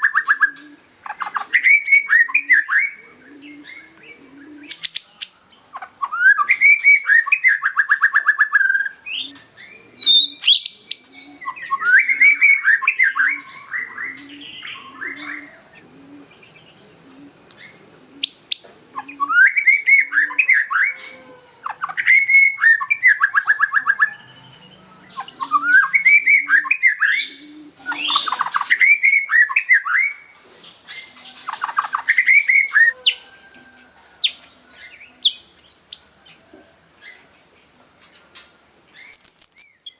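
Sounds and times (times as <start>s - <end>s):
bird singing trilled phrases: 0.0s - 16.8s, 17.5s - 36.1s, 39.0s - 39.9s.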